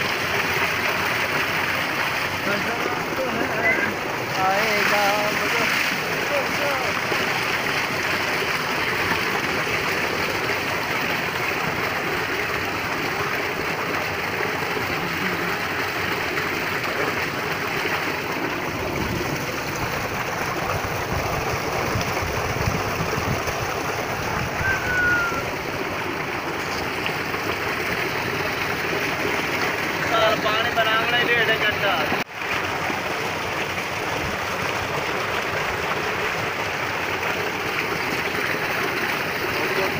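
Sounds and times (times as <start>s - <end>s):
water rushing into a tank: 0.0s - 39.9s.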